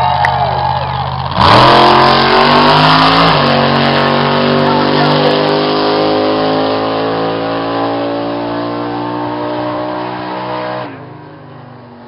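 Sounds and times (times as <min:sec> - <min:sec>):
truck engine revving high: 0:00.0 - 0:12.0.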